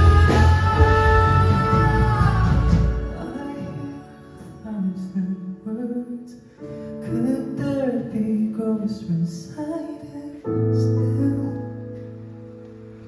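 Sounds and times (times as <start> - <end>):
man singing into a microphone: 0.0 - 6.4, 7.0 - 11.8
keyboard accompaniment: 0.0 - 13.0.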